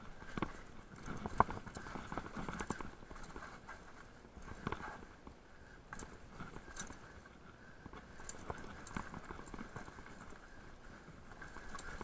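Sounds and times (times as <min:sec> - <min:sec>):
bike tyres rattling on stones: 0:00.0 - 0:12.0.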